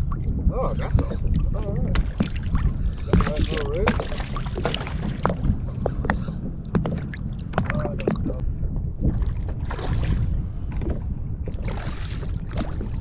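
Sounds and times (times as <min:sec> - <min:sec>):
wind rumble on microphone: 0:00.0 - 0:13.0
paddle splashing water: 0:00.8 - 0:08.4, 0:09.0 - 0:13.0.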